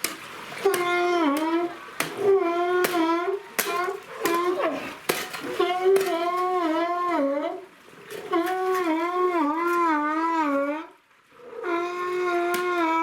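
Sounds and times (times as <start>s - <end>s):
animal wavering calls: 0.6s - 13.0s.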